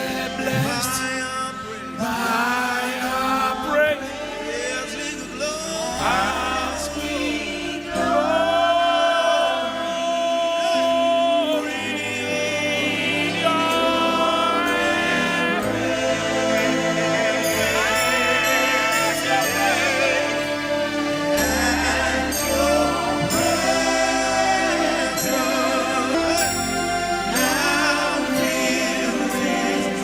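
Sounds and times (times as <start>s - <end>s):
gospel voices singing: 0.0s - 30.0s
instrumental backing: 0.0s - 30.0s.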